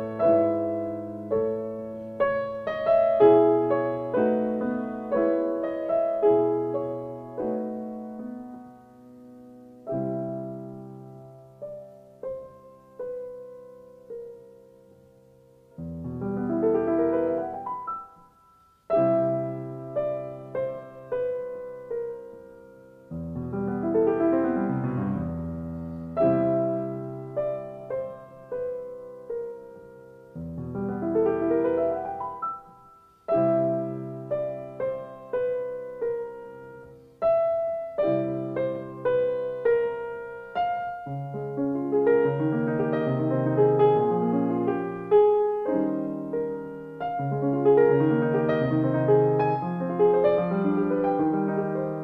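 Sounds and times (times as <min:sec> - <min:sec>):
slow solo piano music: 0:00.0 - 0:52.0.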